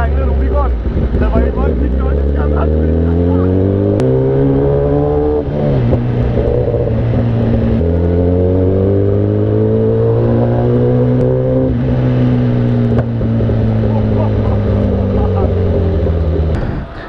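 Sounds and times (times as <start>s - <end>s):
motorcycle engine revving through gears: 0.0s - 16.6s.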